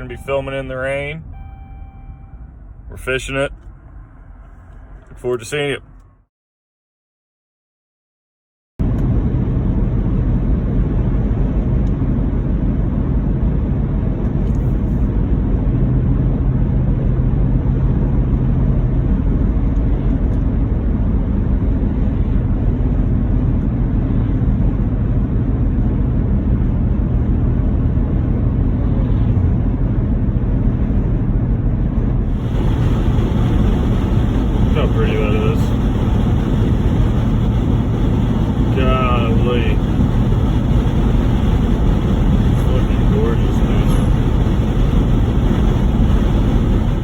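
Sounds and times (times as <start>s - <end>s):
car engine and road noise: 0.0s - 6.3s, 8.8s - 47.0s.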